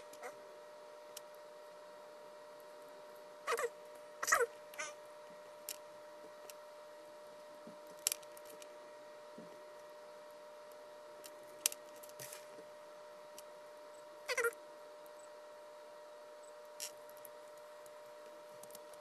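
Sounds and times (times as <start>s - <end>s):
faint electrical hum: 0.0s - 19.0s.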